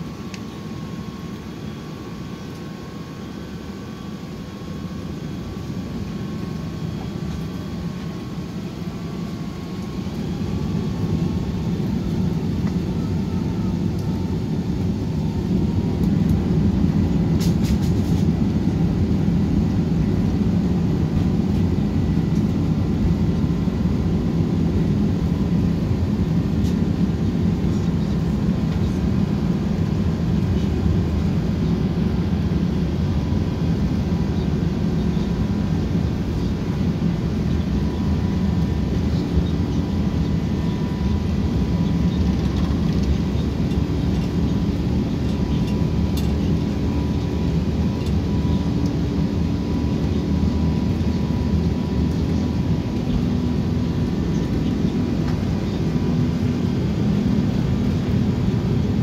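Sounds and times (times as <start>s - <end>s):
jet engines rumbling in cabin: 0.0s - 59.0s.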